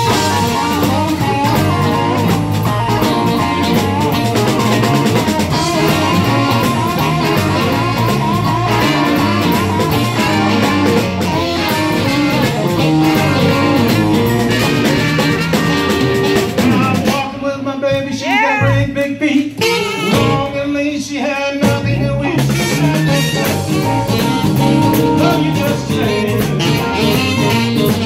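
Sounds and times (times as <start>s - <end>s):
saxophone lead line: 0.0s - 17.3s, 18.2s - 20.8s, 21.6s - 28.0s
blues band playing: 0.0s - 28.0s.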